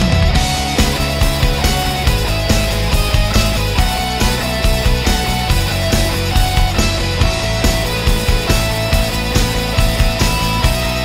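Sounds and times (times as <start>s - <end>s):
driving drum beat: 0.0s - 11.0s
rock music: 0.0s - 11.0s.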